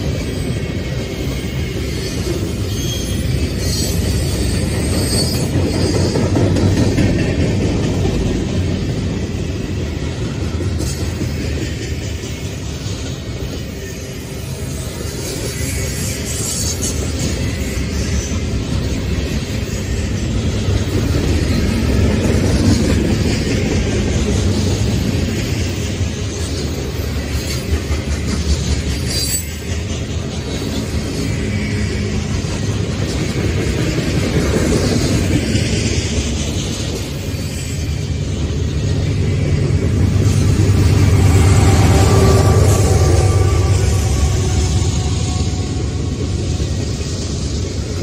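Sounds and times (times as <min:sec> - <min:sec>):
diesel locomotive engine: 0:00.0 - 0:48.0
freight train rolling past: 0:00.0 - 0:48.0.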